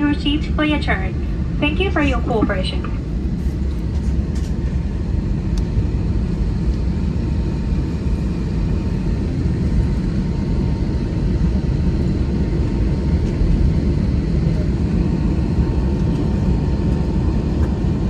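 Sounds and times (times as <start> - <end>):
airliner cabin jet engine rumble: 0.0 - 18.0.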